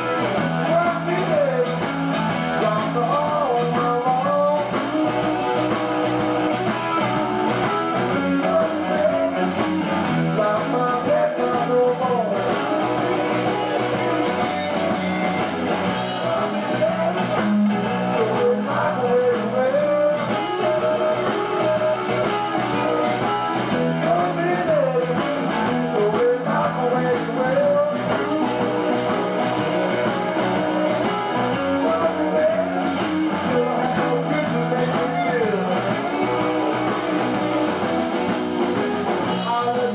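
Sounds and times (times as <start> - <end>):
bass: 0.0 - 39.9
drums with cymbal beat: 0.0 - 39.9
electric guitars: 0.0 - 39.9
harmonica: 0.0 - 39.9.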